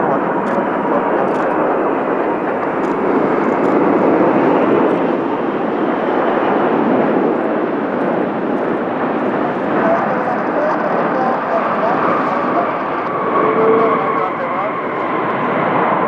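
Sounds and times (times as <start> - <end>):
jet airliner engines running: 0.0 - 16.0.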